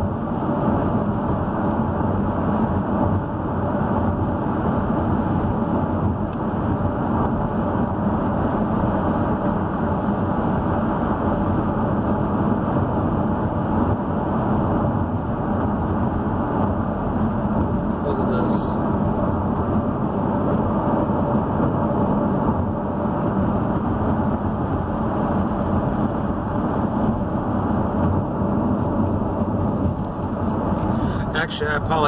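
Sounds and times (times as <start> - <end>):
car cabin road and engine noise: 0.0 - 32.0.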